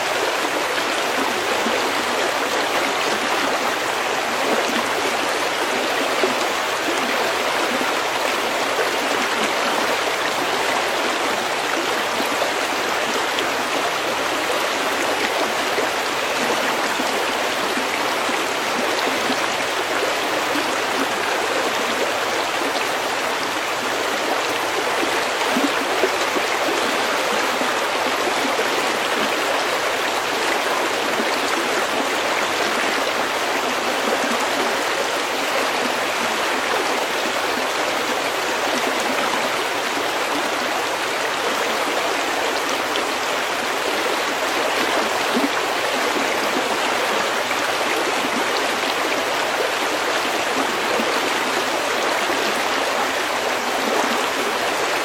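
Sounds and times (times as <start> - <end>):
stream flowing over pebbles: 0.0 - 55.0.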